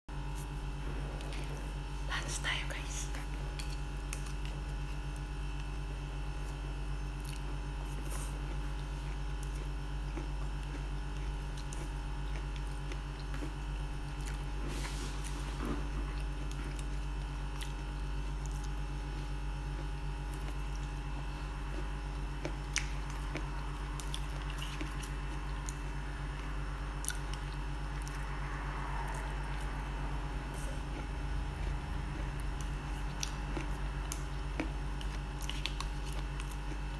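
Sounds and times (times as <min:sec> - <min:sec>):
steady low hum: 0:00.1 - 0:36.9
wet chewing: 0:03.2 - 0:28.3, 0:28.9 - 0:36.9.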